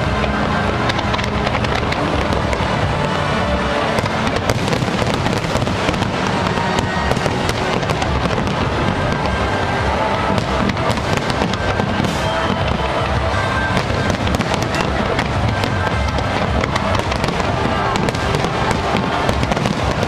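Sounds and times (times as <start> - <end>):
fireworks bangs and crackles: 0.0 - 20.0
music: 0.0 - 20.0.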